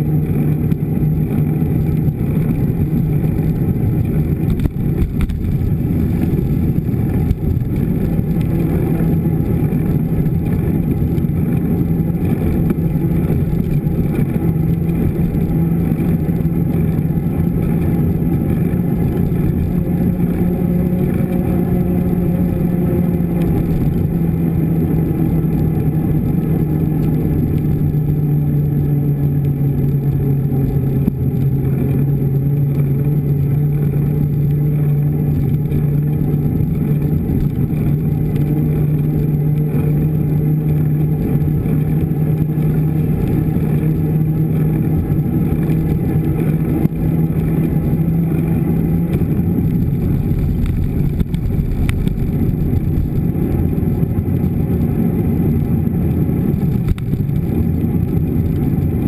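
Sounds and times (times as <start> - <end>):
bike tyres rolling on asphalt: 0.0 - 59.0.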